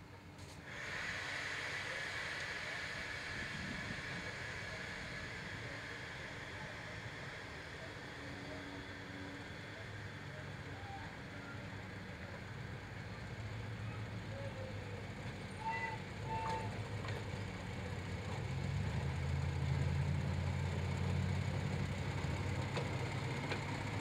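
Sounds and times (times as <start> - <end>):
small rail car engine running: 0.0 - 24.0.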